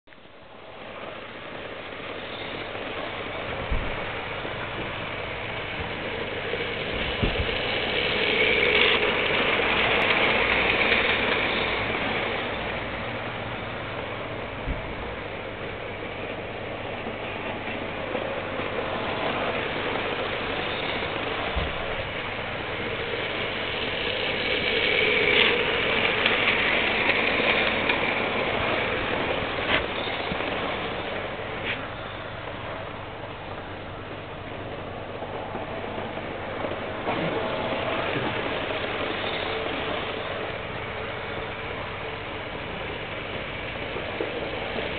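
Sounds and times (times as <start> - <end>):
model trains running on track: 0.1 - 44.9.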